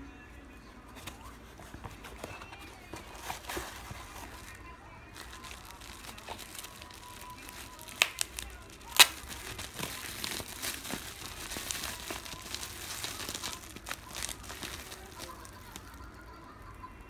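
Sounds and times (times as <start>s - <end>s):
bubble wrap crinkling: 1.0s - 16.8s
bubble wrap snaps: 2.1s - 16.4s.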